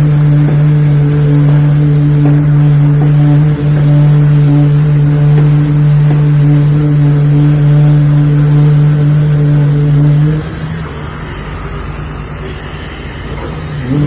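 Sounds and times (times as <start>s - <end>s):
low rumble: 0.0s - 12.8s
construction machinery engine hum: 0.0s - 14.0s.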